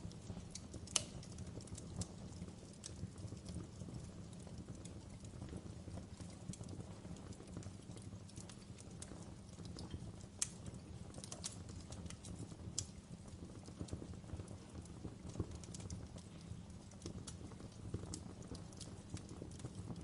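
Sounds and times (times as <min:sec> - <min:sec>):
fire crackling in a fireplace: 0:00.0 - 0:20.0.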